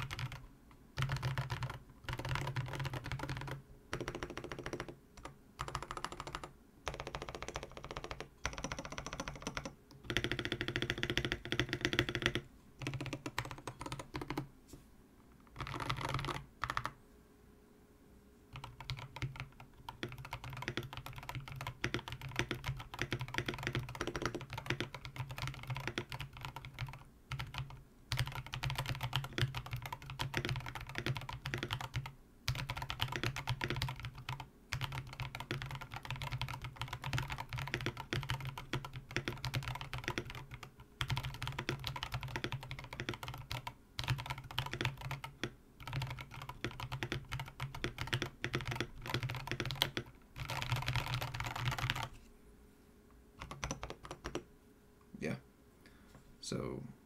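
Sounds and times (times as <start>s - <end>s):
typing on mechanical keyboard: 0.0s - 14.5s, 15.5s - 17.0s, 18.5s - 52.1s, 53.4s - 54.5s.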